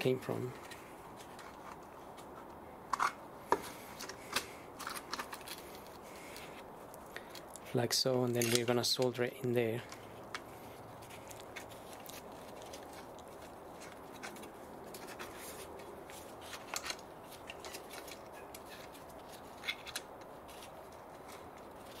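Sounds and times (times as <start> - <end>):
steady low hiss: 0.0 - 22.0
light clicks and rustles: 0.3 - 22.0.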